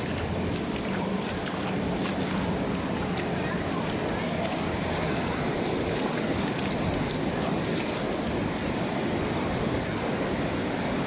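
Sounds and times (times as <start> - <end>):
sea waves washing up beach: 0.0 - 11.0
wind buffeting microphone: 0.0 - 11.0.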